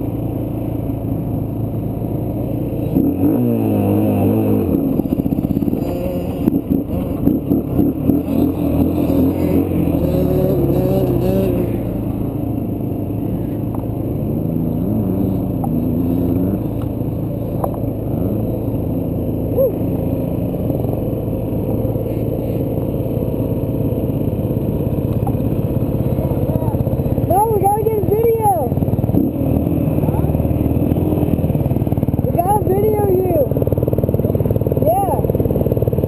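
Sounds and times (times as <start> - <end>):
dirt bike engine revving: 2.7 - 36.0.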